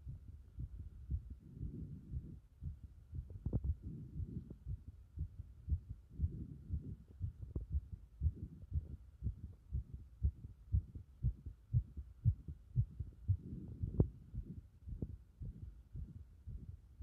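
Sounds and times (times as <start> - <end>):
hazy rumble: 0.0 - 16.8
heartbeat thumps: 0.0 - 16.9.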